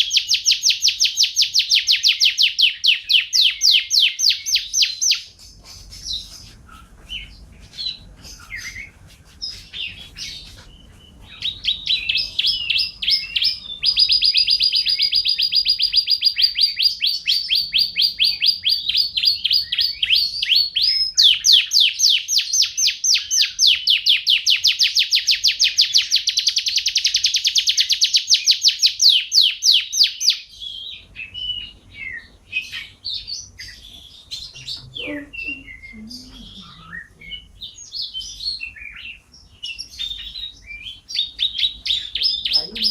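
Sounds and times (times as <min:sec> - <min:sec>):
songbird chirping and trilling: 0:00.0 - 0:42.9.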